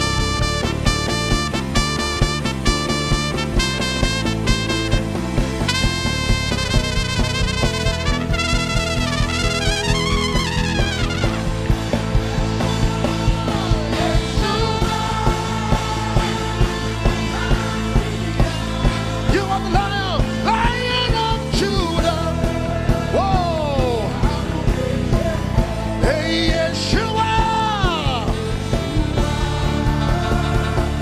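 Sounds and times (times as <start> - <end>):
sliding lead melody: 0.0 - 31.0
worship band music: 0.0 - 31.0.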